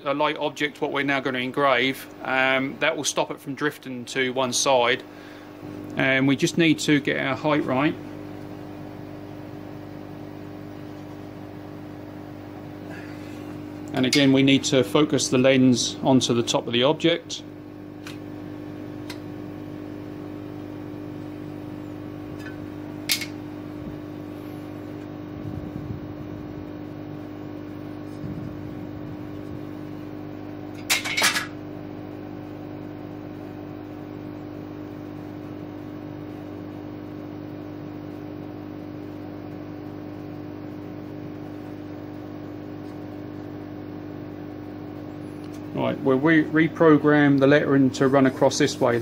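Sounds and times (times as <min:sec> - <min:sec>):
steady machine hum: 0:00.0 - 0:49.0.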